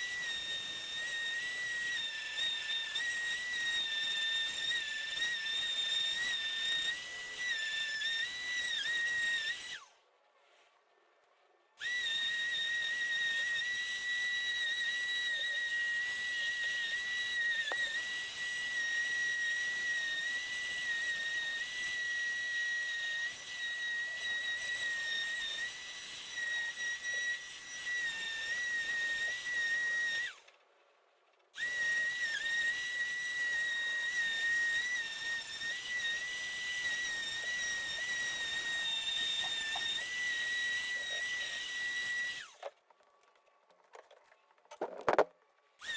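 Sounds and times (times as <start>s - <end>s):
power sander whining: 0.0s - 9.8s, 11.8s - 30.4s, 31.6s - 42.7s, 44.9s - 45.9s.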